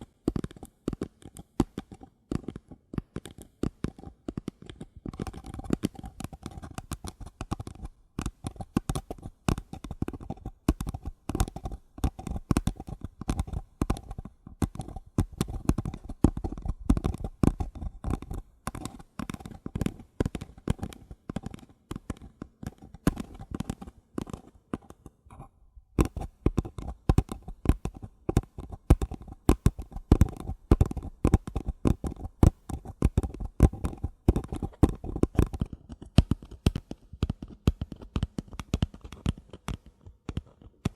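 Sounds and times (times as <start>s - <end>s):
fingers tapping on paper cups: 0.0s - 25.4s, 26.0s - 40.9s.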